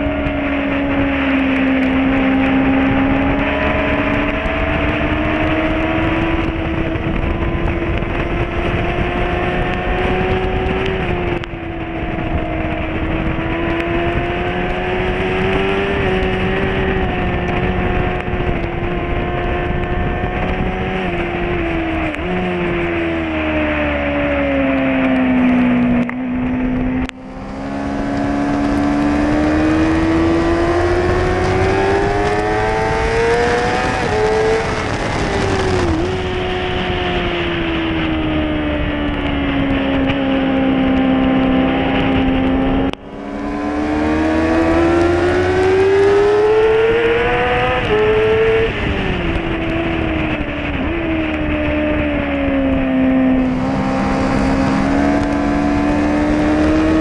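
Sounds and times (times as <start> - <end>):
motorcycle engine at speed: 0.0 - 57.0
wind rushing over camera: 0.0 - 57.0.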